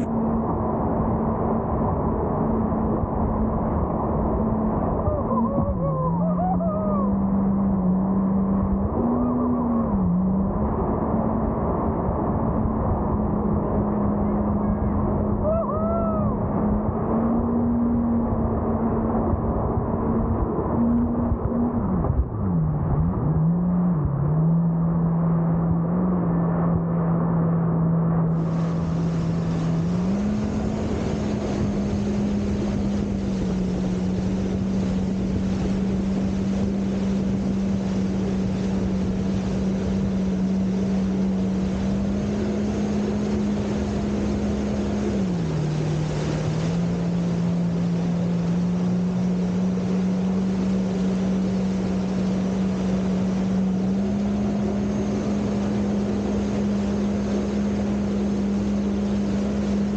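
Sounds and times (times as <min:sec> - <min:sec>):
jet ski engine droning: 0:00.0 - 0:59.9
rushing water and wind: 0:00.0 - 0:59.9.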